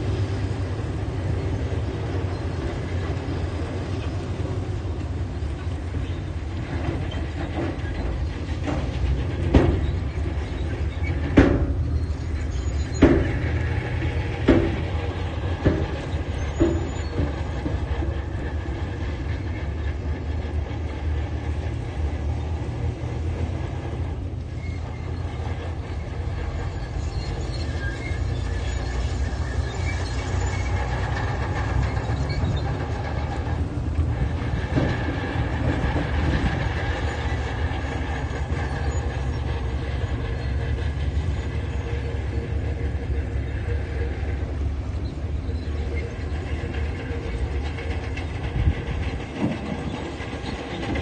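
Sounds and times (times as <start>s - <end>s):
diesel machine droning: 0.0s - 51.0s.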